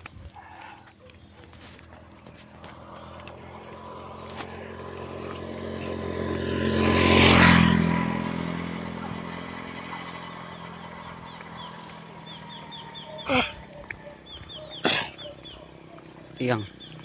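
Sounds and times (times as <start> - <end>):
vehicle passing by: 0.5 - 17.0.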